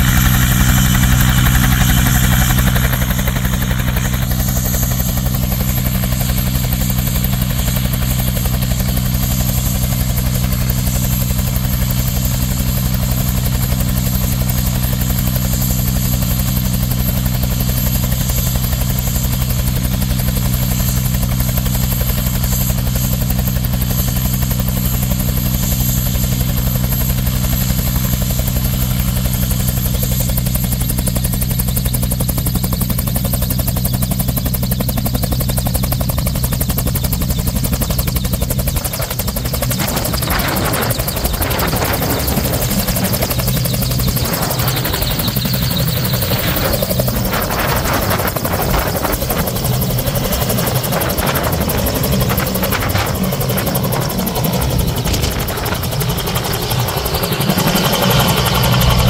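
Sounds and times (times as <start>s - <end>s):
helicopter rotor beat: 0.0s - 59.0s
turbine whine: 0.0s - 59.0s.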